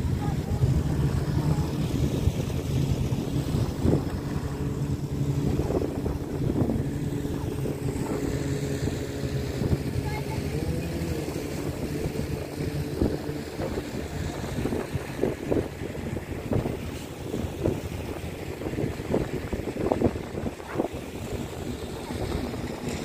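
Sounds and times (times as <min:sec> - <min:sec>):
jet ski engine running: 0:00.0 - 0:23.0.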